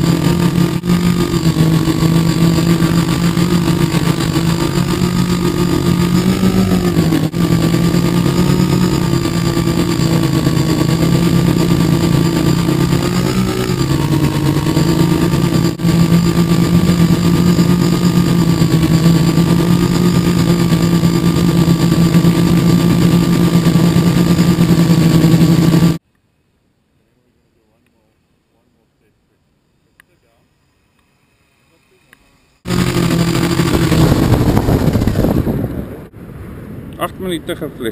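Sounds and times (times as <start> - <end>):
quadcopter motors humming: 0.0 - 26.0, 30.0 - 35.8.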